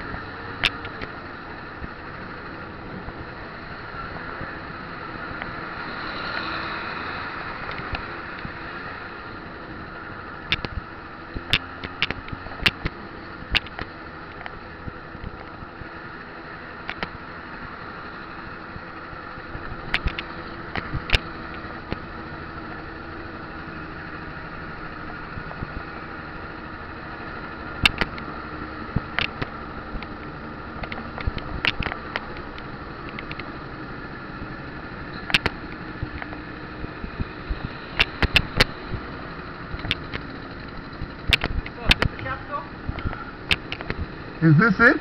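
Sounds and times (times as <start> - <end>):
small vehicle driving: 0.0 - 45.0.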